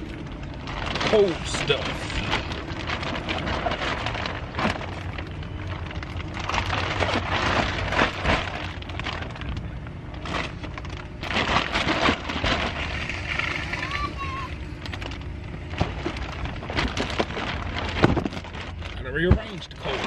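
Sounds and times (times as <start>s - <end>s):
packages clattering and crinkling: 0.0s - 20.0s
steady low hum: 0.0s - 20.0s.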